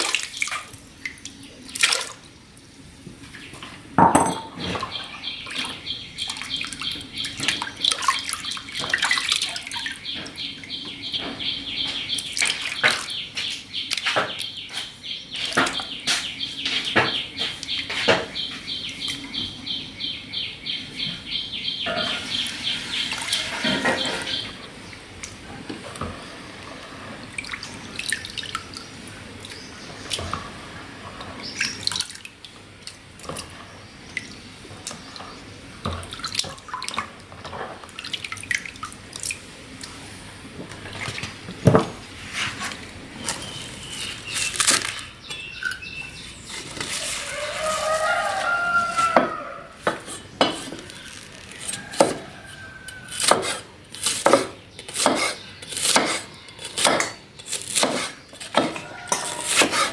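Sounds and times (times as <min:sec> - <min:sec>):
water sloshing and dripping: 0:00.0 - 0:19.6, 0:21.8 - 0:59.9.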